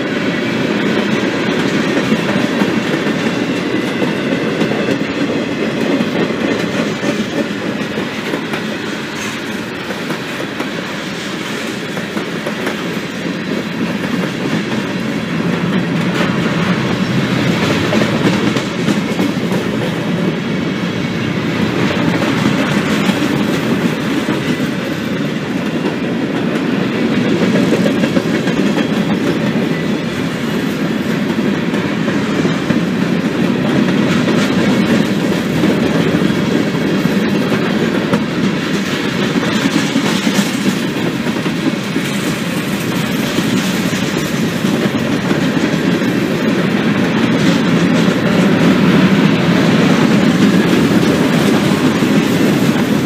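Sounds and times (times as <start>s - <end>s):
freight train rolling past: 0.0s - 53.0s
steel wheels on rails: 0.0s - 53.0s.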